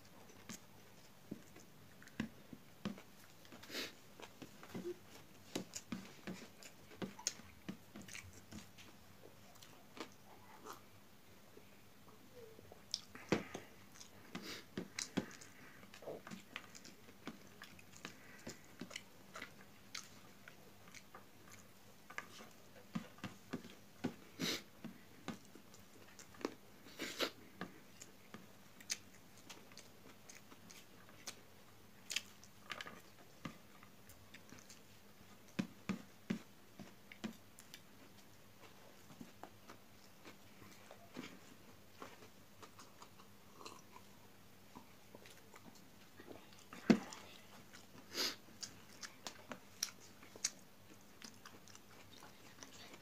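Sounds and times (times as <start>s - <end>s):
person chewing food: 0.0s - 11.0s, 12.4s - 53.0s.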